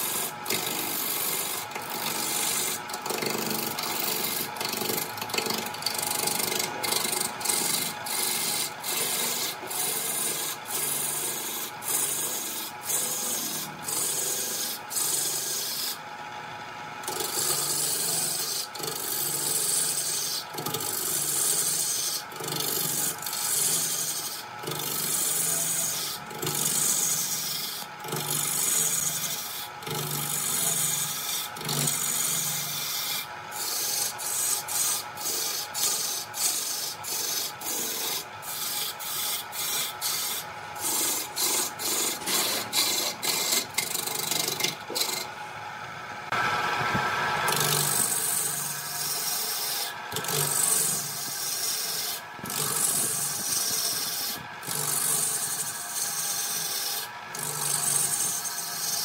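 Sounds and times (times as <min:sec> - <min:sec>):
lathe humming: 0:00.0 - 0:59.0
turning tool cutting wood: 0:00.0 - 0:59.0.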